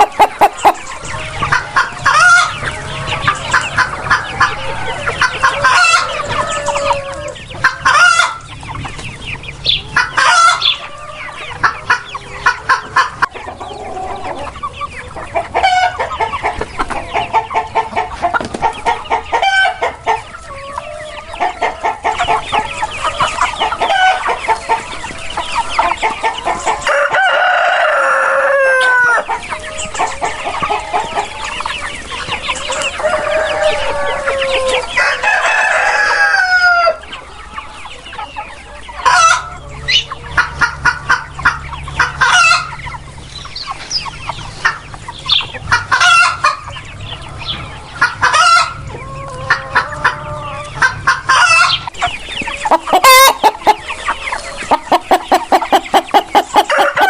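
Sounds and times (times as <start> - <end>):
chickens clucking and squawking: 0.0 - 57.0
roosters crowing: 0.0 - 57.0.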